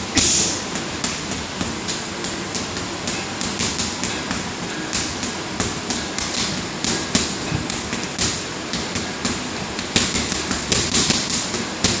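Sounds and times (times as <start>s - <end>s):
gloves punching a bag: 0.0s - 12.0s.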